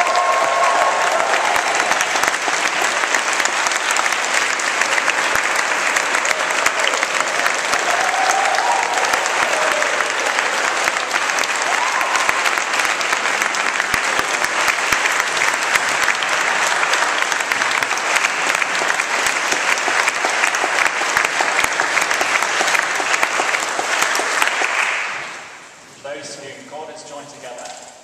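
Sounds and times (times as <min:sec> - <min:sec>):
crowd applauding: 0:00.0 - 0:25.6.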